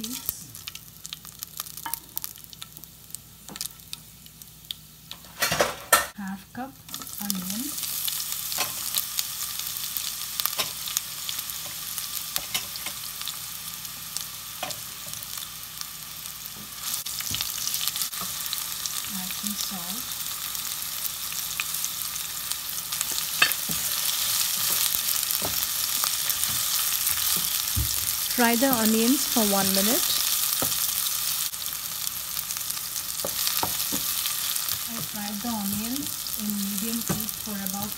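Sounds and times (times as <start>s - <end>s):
onions sizzling in oil: 0.0s - 37.9s.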